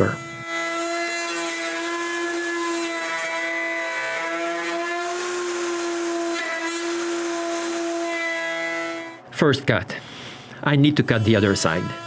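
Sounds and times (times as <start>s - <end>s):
router cutting plywood: 0.0s - 9.2s, 10.9s - 12.0s.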